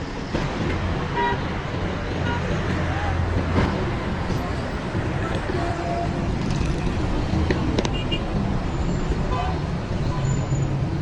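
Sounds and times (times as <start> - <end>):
low road traffic rumble: 0.0 - 11.0.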